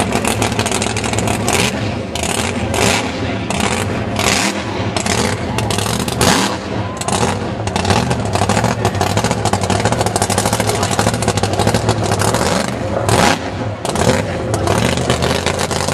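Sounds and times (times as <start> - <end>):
engine revving hard: 0.0 - 15.9.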